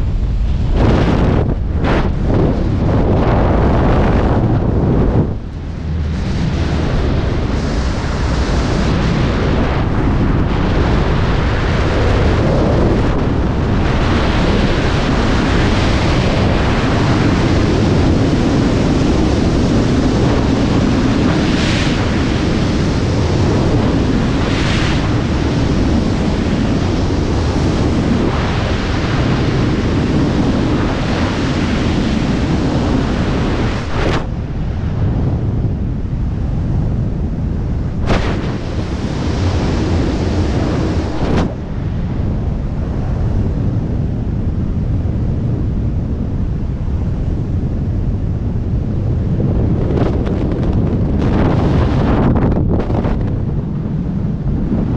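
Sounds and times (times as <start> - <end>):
freefall wind buffeting microphone: 0.0 - 54.9.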